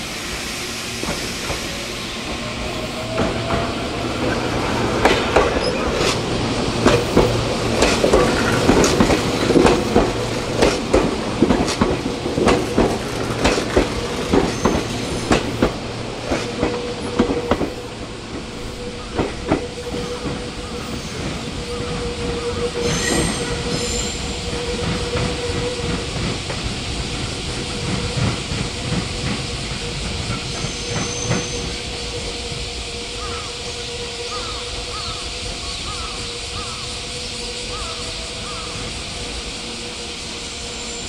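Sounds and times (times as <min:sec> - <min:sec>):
train wheels clacking over rails: 0:00.0 - 0:41.0.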